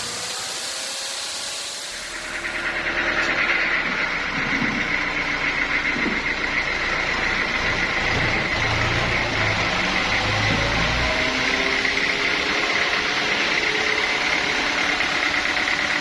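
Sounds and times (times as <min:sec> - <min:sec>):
constant high whine: 0:00.0 - 0:16.0
engine drone: 0:00.0 - 0:16.0.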